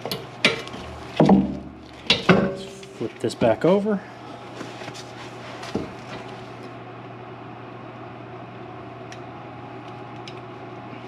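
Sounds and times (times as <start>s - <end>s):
low hum of fan or machinery: 0.0s - 11.0s.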